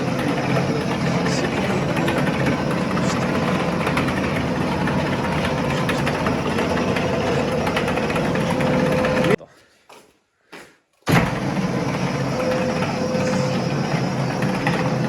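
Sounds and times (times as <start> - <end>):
car lift motor humming: 0.0 - 9.4, 11.1 - 15.0.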